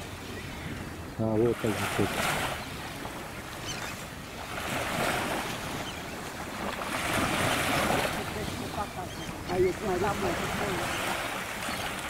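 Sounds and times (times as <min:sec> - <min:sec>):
gentle sea surf: 0:00.0 - 0:12.0
wind on microphone: 0:00.0 - 0:12.0.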